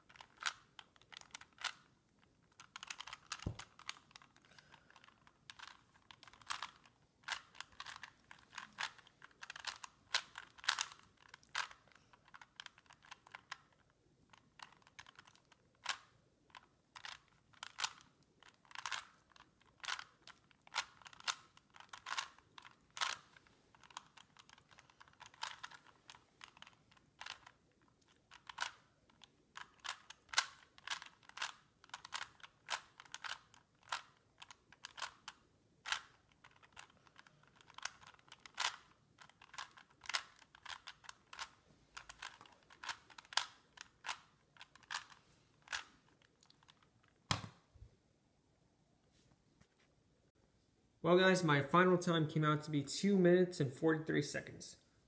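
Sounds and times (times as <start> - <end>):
puzzle cube clicking: 0.0 - 47.6.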